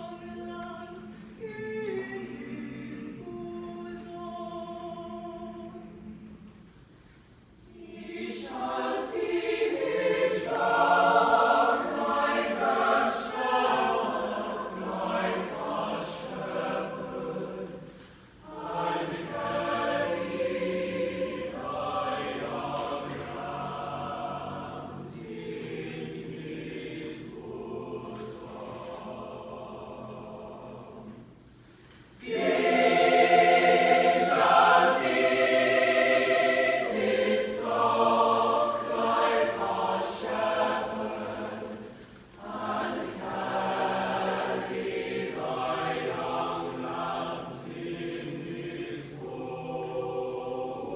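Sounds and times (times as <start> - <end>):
choir singing: 0.0 - 6.6, 7.6 - 31.5, 32.2 - 50.9.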